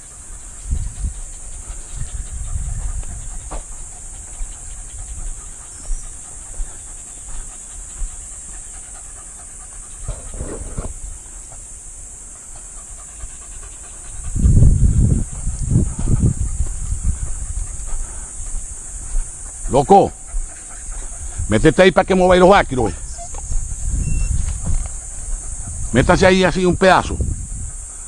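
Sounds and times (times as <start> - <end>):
dogs barking and yelping: 0.0 - 26.0
steady high hiss: 0.0 - 28.0.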